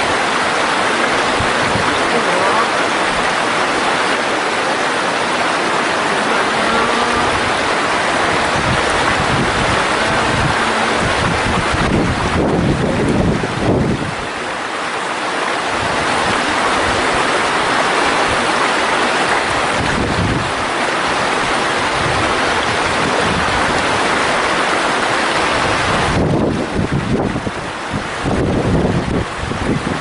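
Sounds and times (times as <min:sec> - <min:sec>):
wind buffeting microphone: 0:00.0 - 0:14.6, 0:15.6 - 0:30.0
stream rushing: 0:00.0 - 0:30.0.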